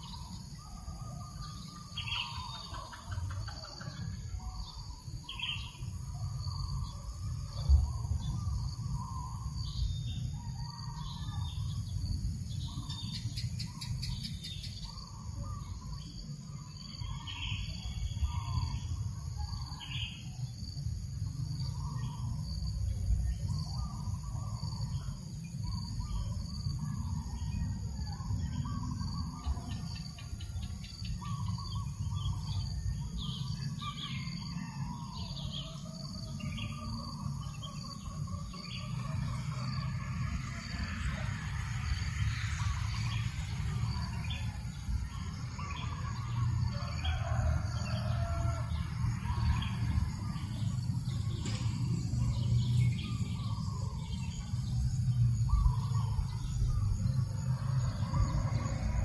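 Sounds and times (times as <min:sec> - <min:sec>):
birds calling and chirping: 0:00.0 - 0:59.0
faint insect trill: 0:00.0 - 0:59.0
low rumble of breeze: 0:00.0 - 0:59.0.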